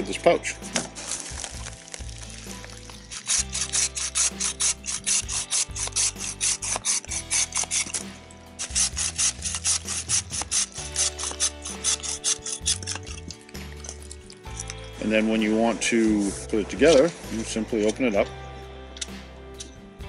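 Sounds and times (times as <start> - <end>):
hand saw rasping through branch: 0.7 - 18.3.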